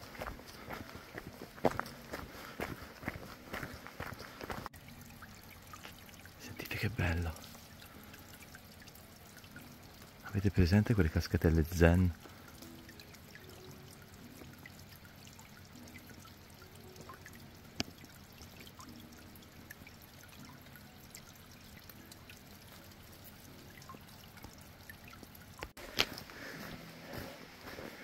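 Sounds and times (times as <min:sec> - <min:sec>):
water drips: 0:00.0 - 0:26.6
stream water trickling and splashing: 0:00.0 - 0:28.0.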